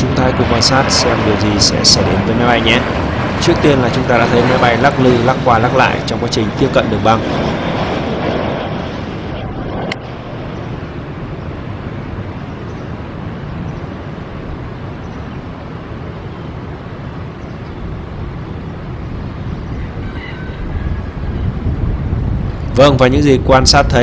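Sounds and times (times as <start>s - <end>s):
distant jet airliner rumble: 0.0s - 24.0s.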